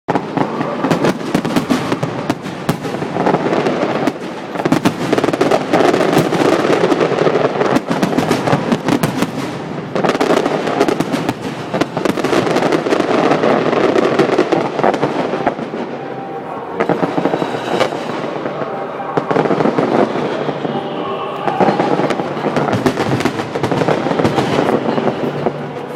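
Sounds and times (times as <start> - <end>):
fireworks bangs and crackling: 0.1 - 25.9.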